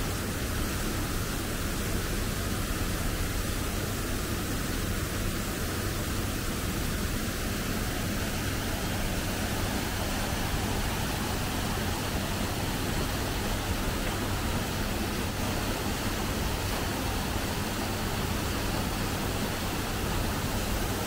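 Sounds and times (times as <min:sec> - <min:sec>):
waterfall rushing over rock: 0:03.8 - 0:21.0.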